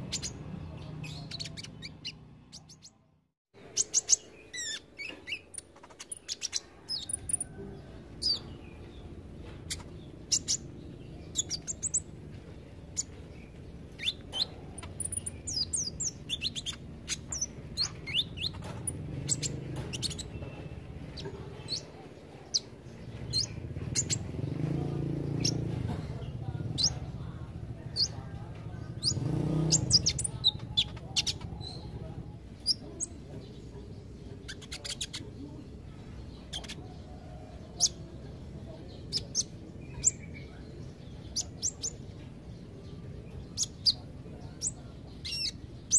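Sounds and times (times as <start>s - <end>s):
bird chirping and trilling: 0.0s - 3.0s, 3.6s - 25.6s, 28.9s - 37.0s, 38.9s - 45.9s.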